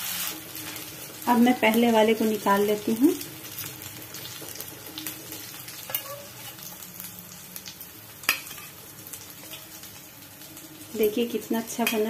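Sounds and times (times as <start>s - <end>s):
frying in hot oil: 0.0s - 12.0s.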